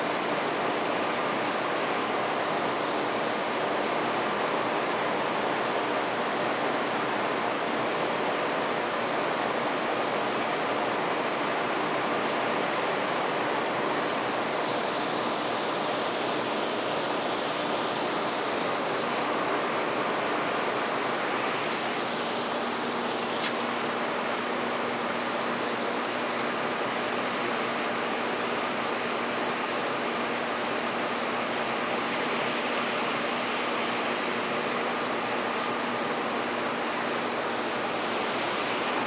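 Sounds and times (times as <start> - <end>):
aquarium water circulation hiss: 0.0 - 39.0.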